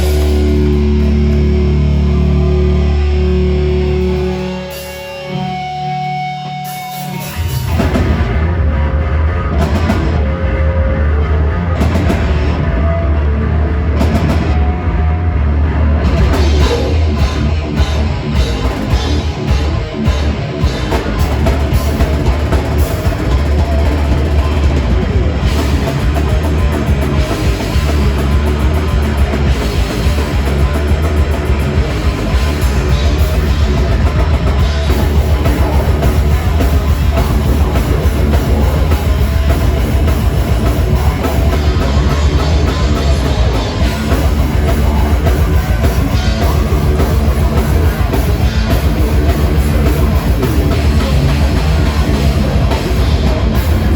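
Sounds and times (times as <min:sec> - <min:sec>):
drum kit: 0:00.0 - 0:05.8, 0:06.7 - 0:13.0, 0:13.7 - 0:15.2, 0:15.9 - 0:53.9
heavy metal band playing live: 0:00.0 - 0:53.9.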